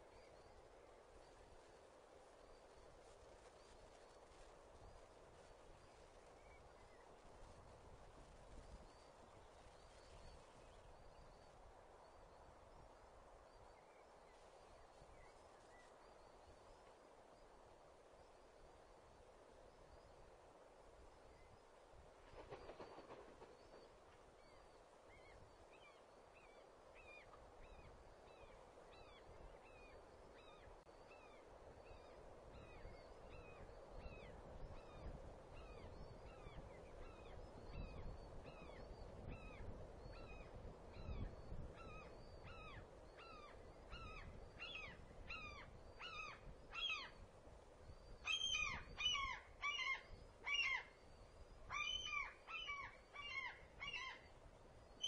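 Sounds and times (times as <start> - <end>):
wind hiss on microphone: 0.0 - 55.0.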